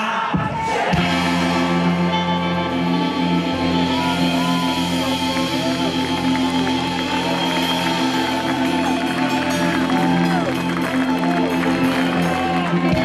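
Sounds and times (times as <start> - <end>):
live band music through pa: 0.0 - 13.0.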